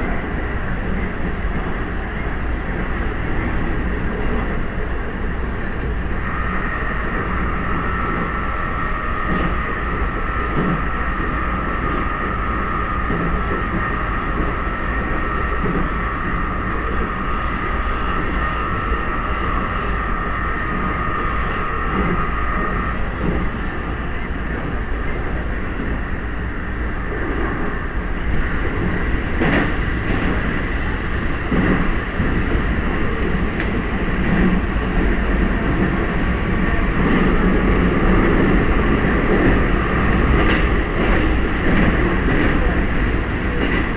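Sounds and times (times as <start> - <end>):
high whine from train drive: 0.0 - 43.9
train wheels rumbling on rail: 0.0 - 43.9.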